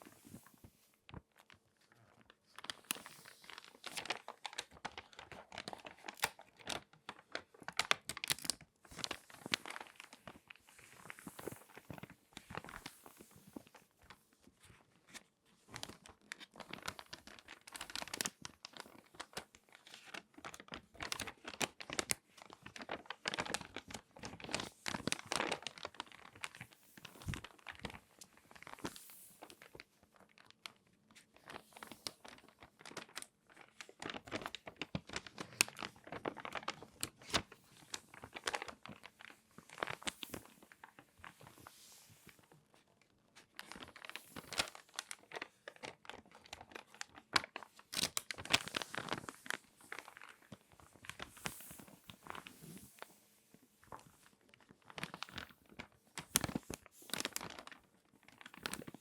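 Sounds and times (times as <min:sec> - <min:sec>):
magazine pages crinkling: 0:00.0 - 0:59.0.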